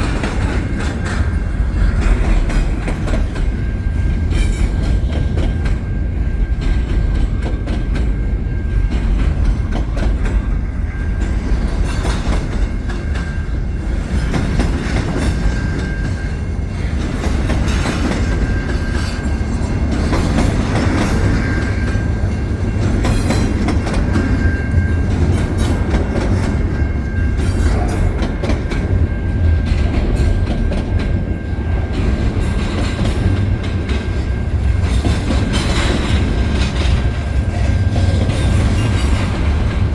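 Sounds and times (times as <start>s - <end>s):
freight train rumbling past: 0.0s - 39.9s
wheels clattering over rails: 0.0s - 39.9s.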